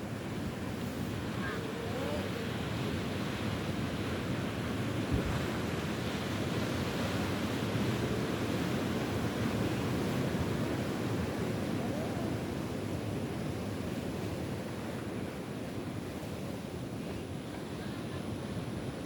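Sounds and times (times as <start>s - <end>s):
ocean surf washing: 0.0s - 19.0s
wind on microphone: 0.0s - 19.0s.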